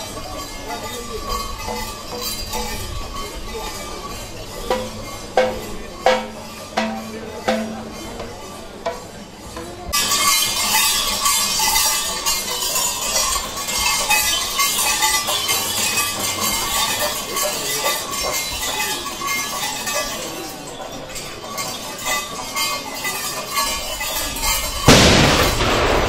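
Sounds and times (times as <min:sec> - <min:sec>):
metal jingling and clinking: 0:00.0 - 0:08.2, 0:10.0 - 0:25.8.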